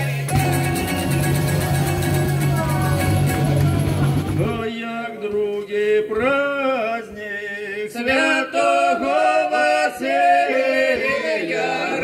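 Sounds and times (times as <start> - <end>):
man singing lead: 0.0 - 3.3, 4.4 - 10.8
group singing unaccompanied: 0.0 - 12.0.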